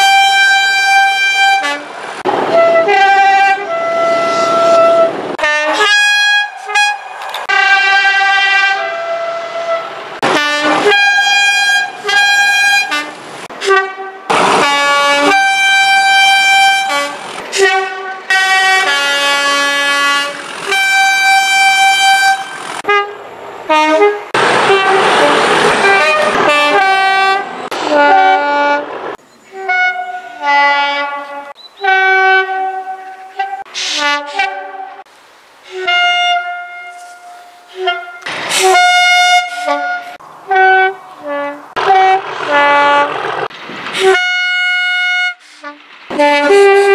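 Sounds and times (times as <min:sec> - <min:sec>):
two-tone train air horn blasts: 0:00.0 - 0:01.9, 0:02.5 - 0:28.9, 0:29.5 - 0:35.1, 0:35.7 - 0:43.2, 0:44.0 - 0:46.9
locomotive engine rush: 0:00.0 - 0:46.9.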